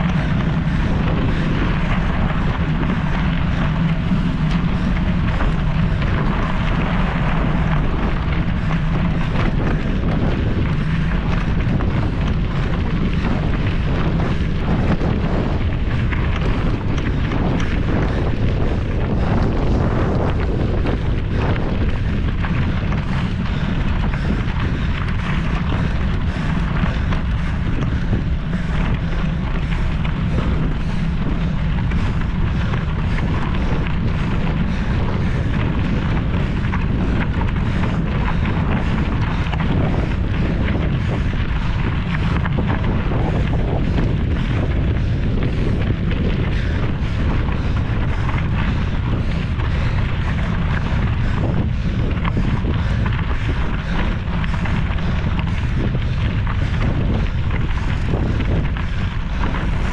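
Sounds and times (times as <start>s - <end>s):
bike rattling: 0.0s - 59.9s
low rumble: 0.0s - 59.9s
wind buffeting microphone: 0.0s - 59.9s.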